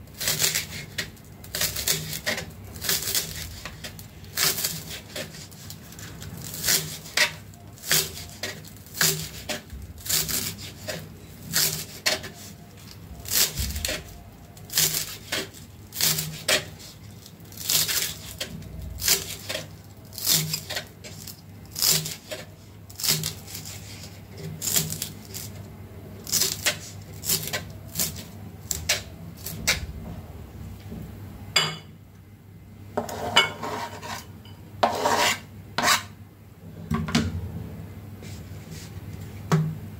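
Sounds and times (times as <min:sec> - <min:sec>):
knife scraping cutting board: 0:00.2 - 0:25.6, 0:26.3 - 0:29.9, 0:33.0 - 0:36.2.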